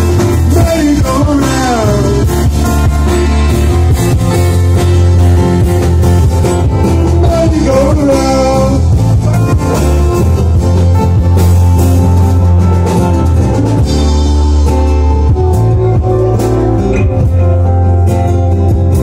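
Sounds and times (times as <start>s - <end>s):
heavy steady bass line: 0.0s - 19.0s
live band playing: 0.0s - 19.0s.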